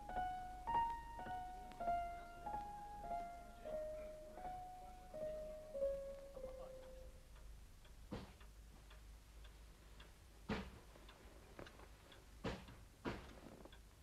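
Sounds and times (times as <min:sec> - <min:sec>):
clock ticking: 0:00.0 - 0:14.0.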